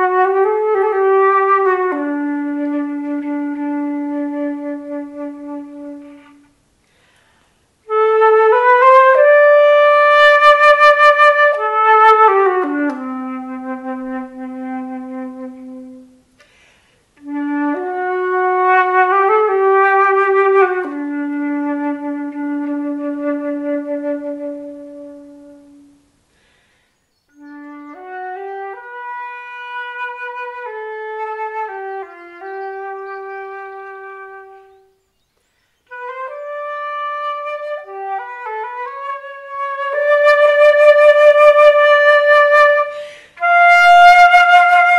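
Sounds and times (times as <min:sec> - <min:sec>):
solo flute melody: 0:00.0 - 0:06.6, 0:07.8 - 0:16.4, 0:17.2 - 0:26.2, 0:27.2 - 0:44.9.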